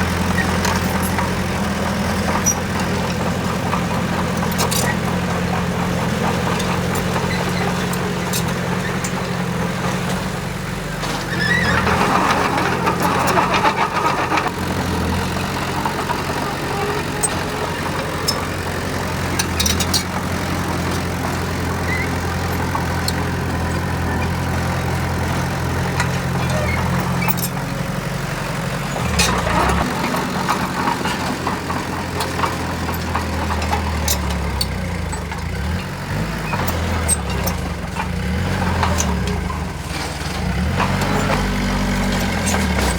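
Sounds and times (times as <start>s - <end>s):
heavy diesel engine running: 0.0s - 42.9s
metal clanks: 0.1s - 42.9s.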